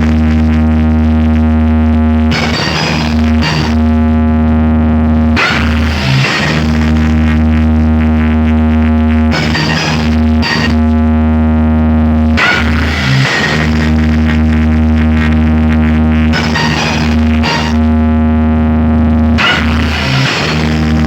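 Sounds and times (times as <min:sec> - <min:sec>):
distorted chord over heavy bass: 0:00.0 - 0:21.0.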